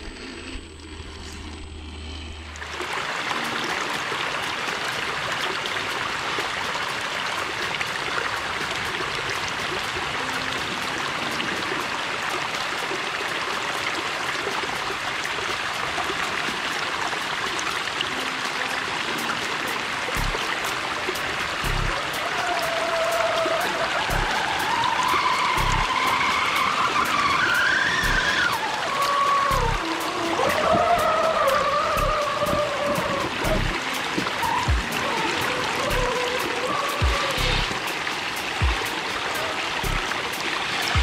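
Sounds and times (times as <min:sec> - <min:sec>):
stream running over stones: 0:00.0 - 0:41.0.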